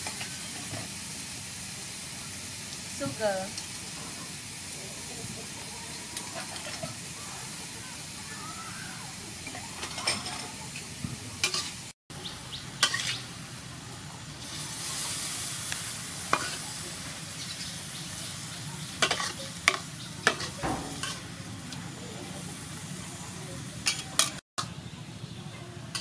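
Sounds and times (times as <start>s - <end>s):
food sizzling in frying pan: 0.0s - 24.4s.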